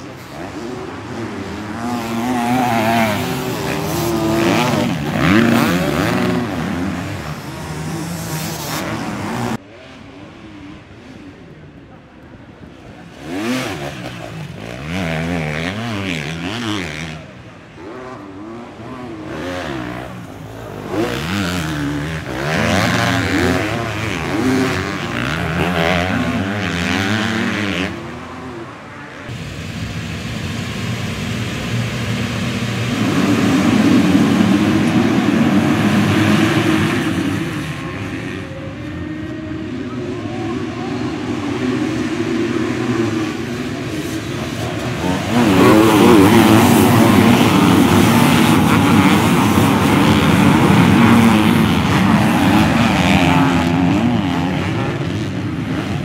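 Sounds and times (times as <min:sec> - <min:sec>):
motocross bikes racing past: 0:00.0 - 0:12.0, 0:12.6 - 0:56.0.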